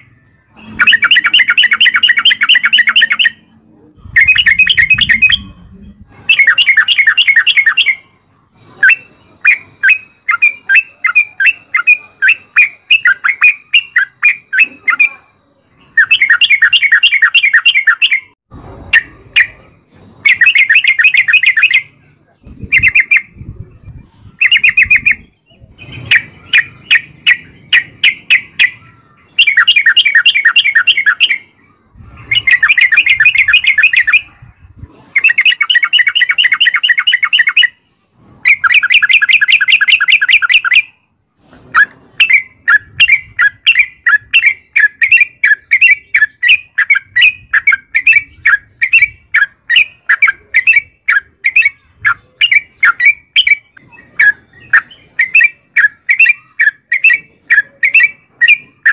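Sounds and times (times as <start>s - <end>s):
bulbul singing rattling phrases: 0.0s - 41.1s, 41.8s - 58.9s.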